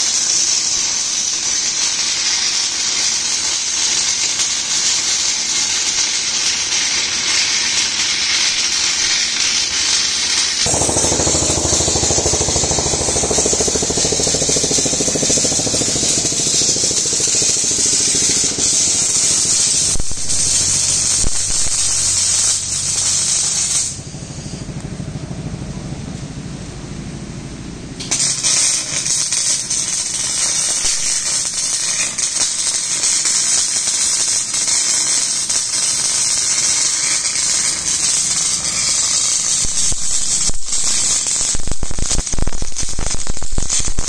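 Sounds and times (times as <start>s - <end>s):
welding arc hiss and buzz: 0.0s - 24.8s, 28.0s - 44.0s.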